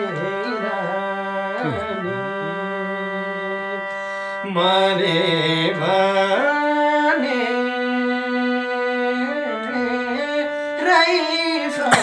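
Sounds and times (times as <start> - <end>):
instrumental accompaniment: 0.0 - 12.0
person singing folk song: 0.0 - 12.0.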